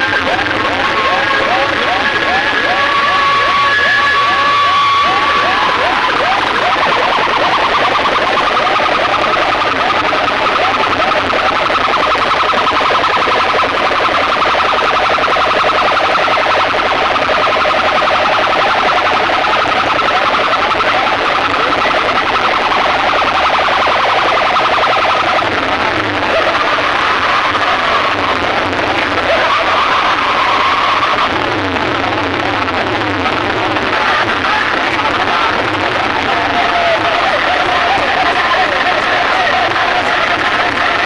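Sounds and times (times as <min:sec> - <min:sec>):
dense wash of noise: 0:00.0 - 0:41.0
siren-like electronic alarm effect: 0:00.0 - 0:41.0.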